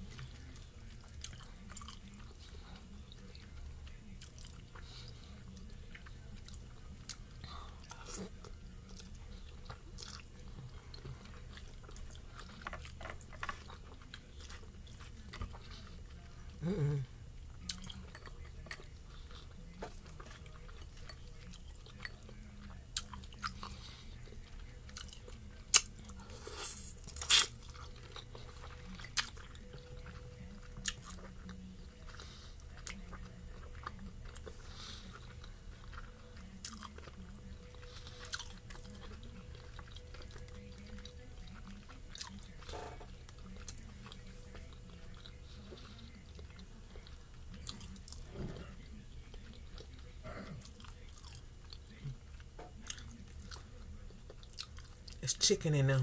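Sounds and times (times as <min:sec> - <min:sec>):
close-up chewing with mouth smacks: 0:00.0 - 0:55.9.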